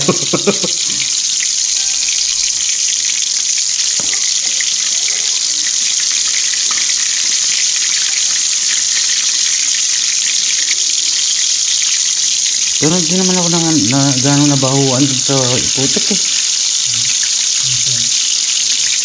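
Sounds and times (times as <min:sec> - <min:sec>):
fritters sizzling in hot oil: 0:00.0 - 0:19.0.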